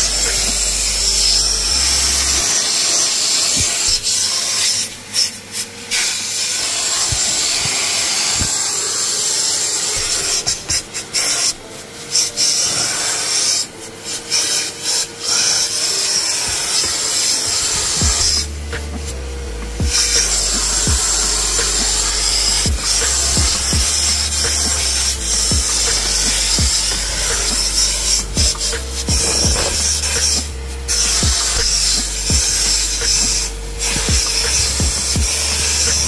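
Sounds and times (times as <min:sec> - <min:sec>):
nozzle rubbing on surfaces: 0:00.0 - 0:36.0
vacuum suction hiss: 0:00.0 - 0:36.0.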